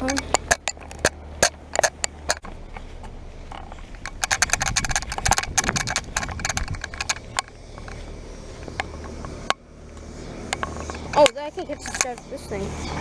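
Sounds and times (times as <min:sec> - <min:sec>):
sharp clicks and crackles: 0:00.0 - 0:12.5
heat pump humming: 0:00.0 - 0:13.0.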